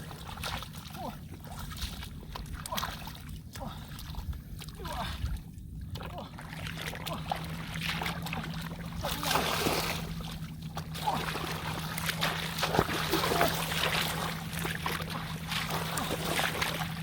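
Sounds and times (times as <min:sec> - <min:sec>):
muddy water sloshing: 0:00.0 - 0:17.0
steady low hum: 0:00.0 - 0:17.0.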